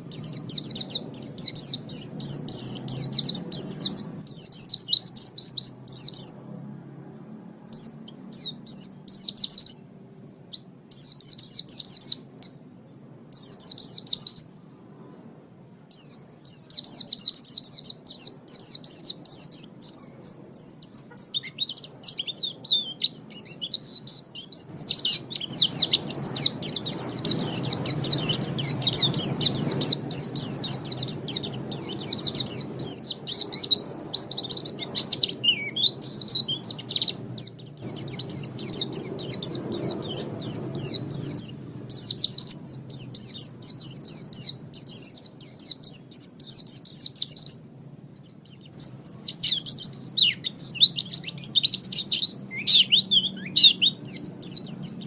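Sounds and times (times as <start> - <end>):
bird twittering song: 0.0 - 55.0
faint low rumble: 0.0 - 55.0.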